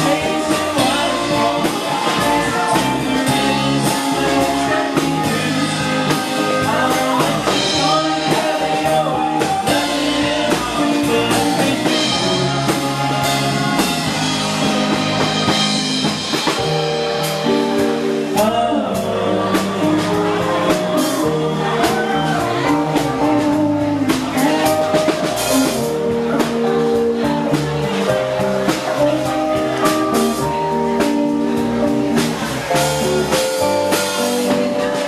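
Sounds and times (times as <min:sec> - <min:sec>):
bass line: 0:00.0 - 0:35.0
drum kit beat: 0:00.0 - 0:35.0
electric guitar: 0:00.0 - 0:35.0
sustained keyboard chords: 0:00.0 - 0:35.0.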